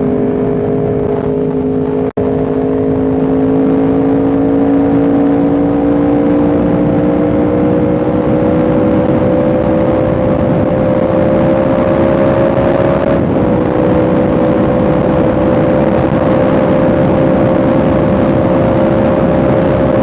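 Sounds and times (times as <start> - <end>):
motorcycle engine running: 0.0 - 20.0
rush of noise: 0.0 - 20.0.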